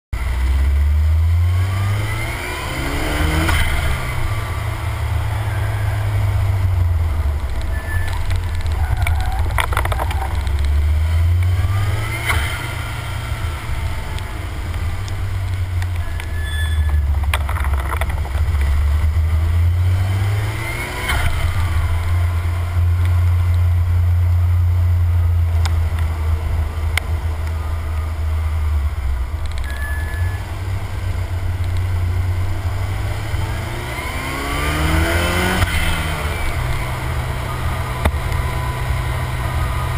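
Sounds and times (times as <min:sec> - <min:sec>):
wind and tyre noise: 0:00.1 - 0:39.9
car engine revving: 0:00.2 - 0:39.9.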